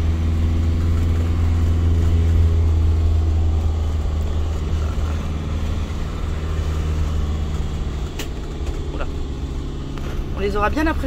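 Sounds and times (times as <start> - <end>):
engine droning from inside cab: 0.0 - 11.0.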